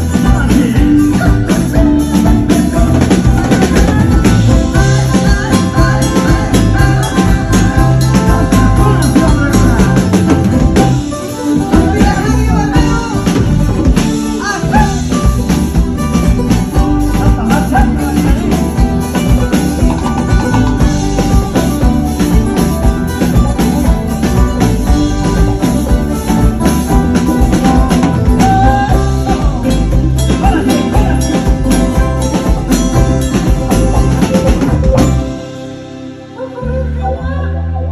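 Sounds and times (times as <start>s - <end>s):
person singing: 0.0s - 15.5s, 16.5s - 37.9s
jingling percussion: 0.0s - 35.5s
drums: 0.0s - 37.6s
bass: 0.0s - 37.9s.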